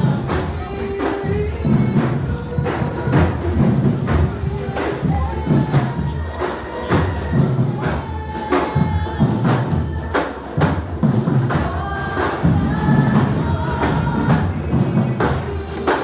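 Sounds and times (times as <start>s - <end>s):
steady drum beat: 0.0s - 16.0s
voices singing together: 0.0s - 16.0s.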